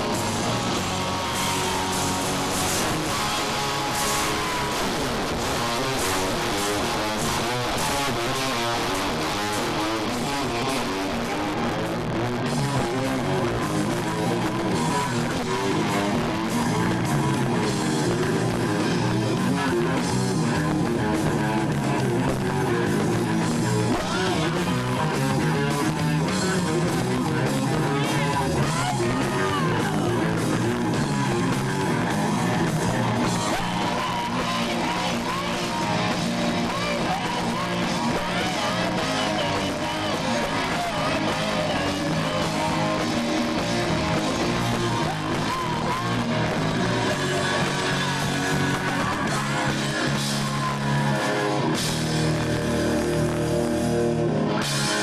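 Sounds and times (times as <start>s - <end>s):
person singing: 0.0s - 51.8s
live rock band playing: 0.0s - 55.0s.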